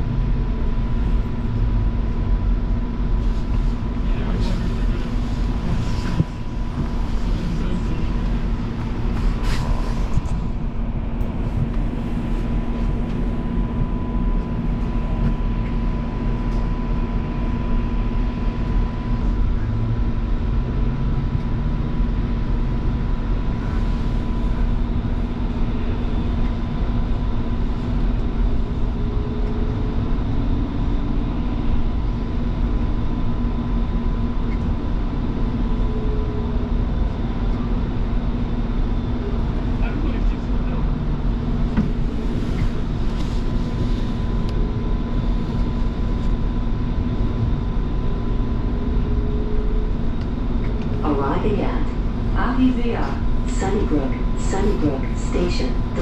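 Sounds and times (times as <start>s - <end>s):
electrical hum and whine: 0.0s - 56.0s.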